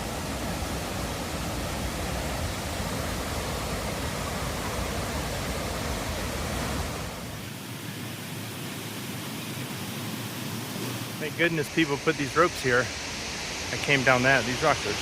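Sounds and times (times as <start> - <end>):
water cascading over rocks: 0.0 - 15.0.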